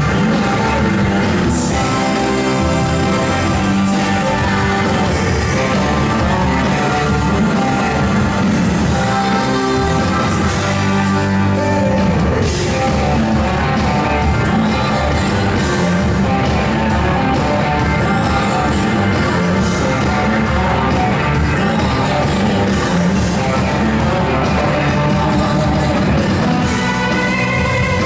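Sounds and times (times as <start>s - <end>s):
bass guitar: 0.0s - 28.0s
drums: 0.0s - 28.0s
electric guitars: 0.0s - 28.0s
keyboards: 0.0s - 28.0s
person singing: 0.0s - 28.0s.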